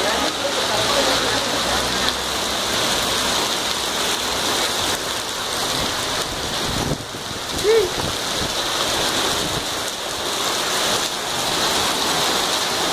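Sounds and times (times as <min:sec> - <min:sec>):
heavy rain and hail on pavement: 0:00.0 - 0:12.9.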